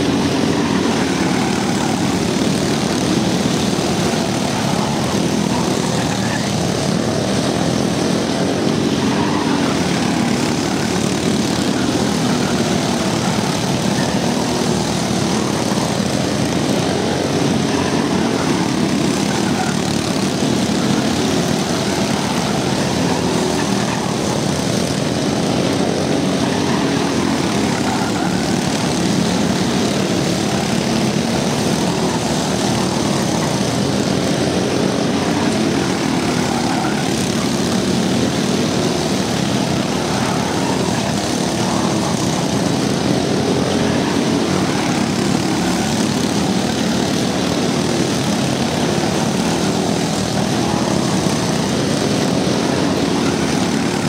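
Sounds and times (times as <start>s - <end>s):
go-kart engines buzzing: 0.0s - 54.0s.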